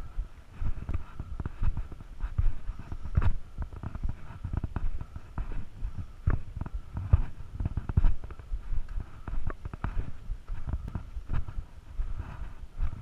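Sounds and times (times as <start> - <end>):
footsteps on rocky trail: 0.0 - 13.0.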